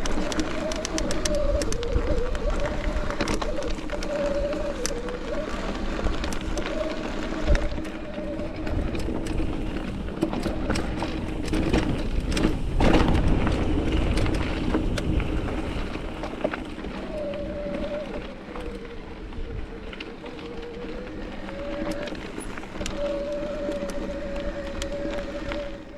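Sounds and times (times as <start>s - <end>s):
bike clicking and rattling over rocks: 0.0s - 25.9s
tyre and wind noise: 0.0s - 25.9s
wavering hum: 0.0s - 25.9s.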